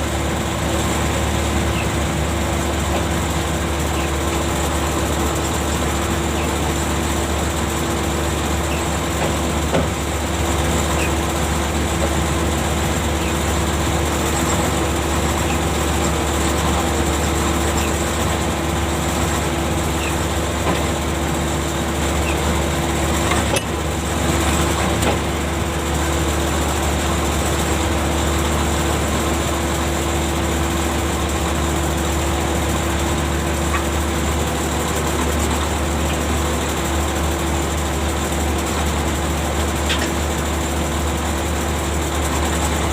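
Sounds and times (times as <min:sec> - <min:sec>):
machinery humming: 0:00.0 - 0:42.9.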